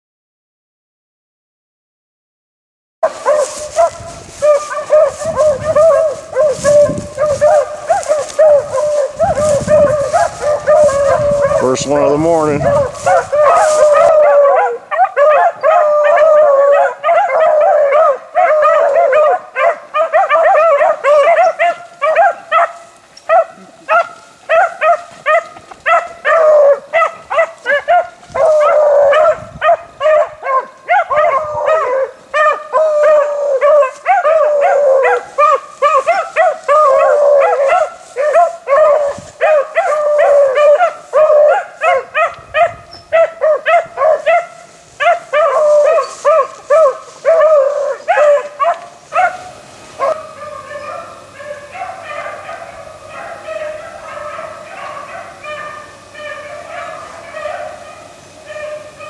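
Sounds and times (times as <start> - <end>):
hounds baying and howling: 3.0 - 59.0.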